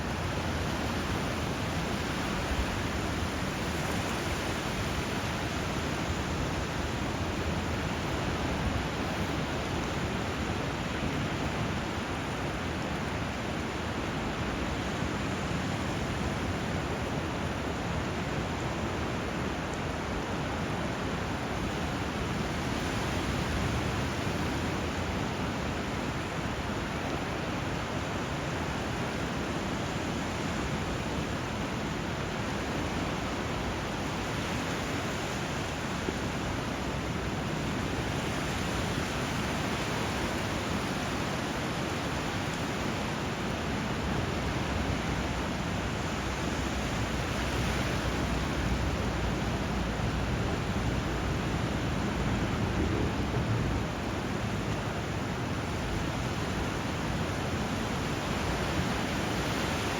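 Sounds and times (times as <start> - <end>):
flowing water and surf: 0.0 - 59.9.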